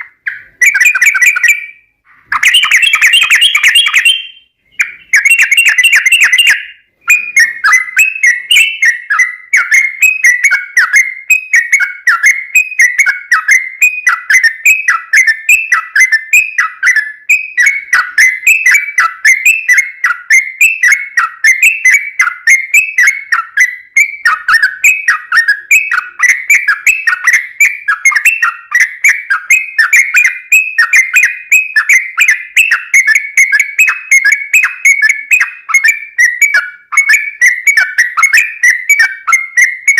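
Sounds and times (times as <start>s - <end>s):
bird singing bubbling whistles: 0.0s - 39.9s.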